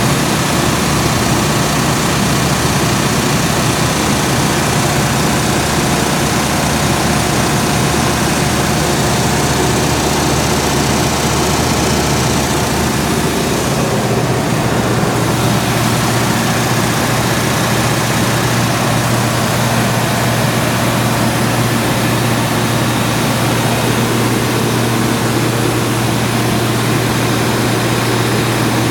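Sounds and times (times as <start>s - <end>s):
generator engine low hum: 0.0s - 28.9s.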